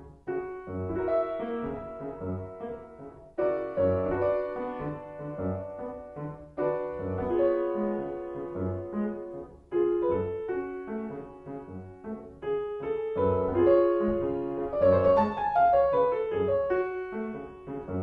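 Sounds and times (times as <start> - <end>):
lively piano piece: 0.0 - 18.0.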